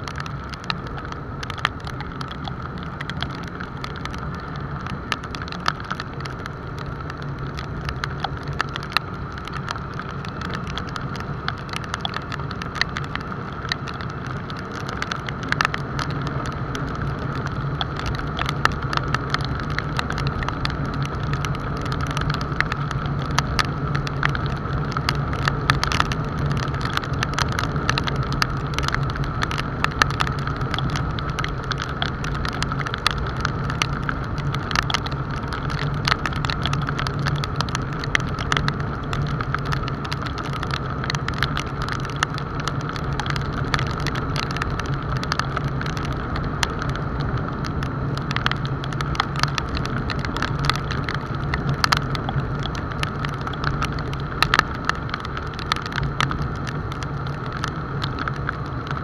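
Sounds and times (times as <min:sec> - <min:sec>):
raindrops ticking on camera: 0:00.0 - 0:59.0
wind and road noise: 0:00.0 - 0:59.0.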